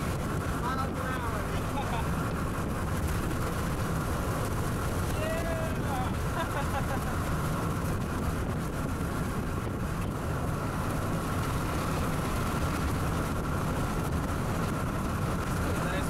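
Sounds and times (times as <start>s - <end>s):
wind and road noise: 0.0s - 16.0s
wind buffeting microphone: 0.0s - 16.0s.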